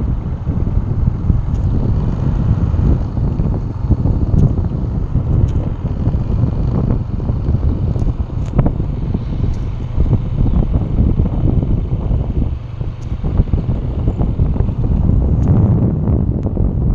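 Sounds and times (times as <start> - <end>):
low steady motorbike rumble: 0.0 - 16.9
wind buffeting microphone: 0.0 - 16.9.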